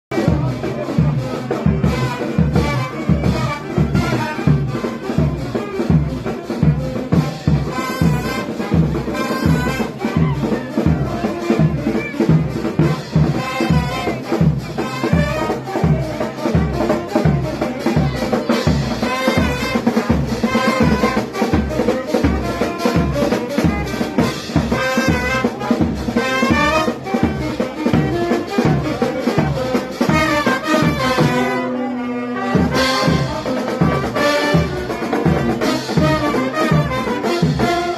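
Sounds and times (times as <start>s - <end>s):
fast drum beat: 0.1s - 31.6s, 32.5s - 37.9s
brass band playing: 0.1s - 37.9s.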